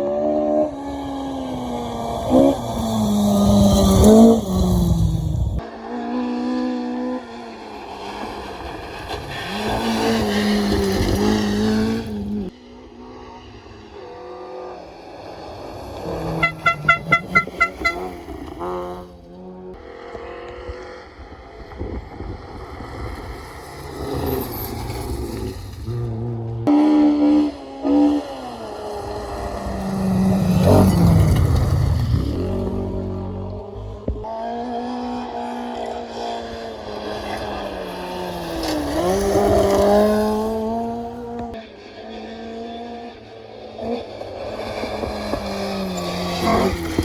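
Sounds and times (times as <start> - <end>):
rally cars passing revving: 0.0 - 47.0.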